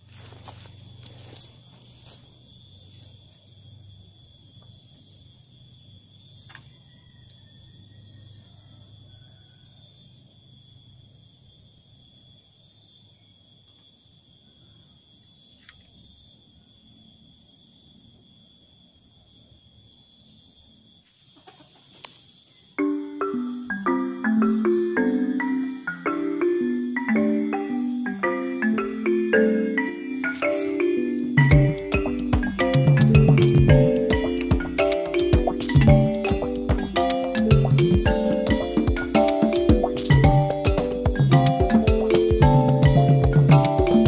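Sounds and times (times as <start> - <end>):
insect trilling: 0.0 - 44.0.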